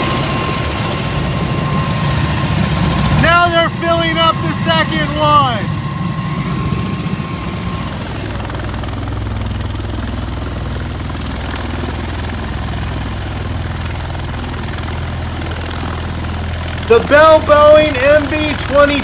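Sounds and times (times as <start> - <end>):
rotor and engine hum: 0.0 - 19.0.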